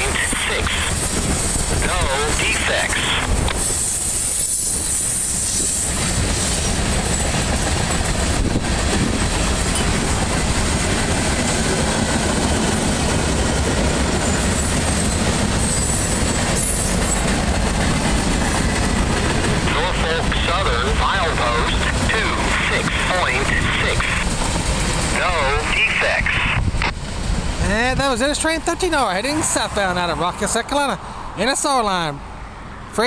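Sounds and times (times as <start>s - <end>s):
freight train wheels rumbling: 0.0s - 32.1s.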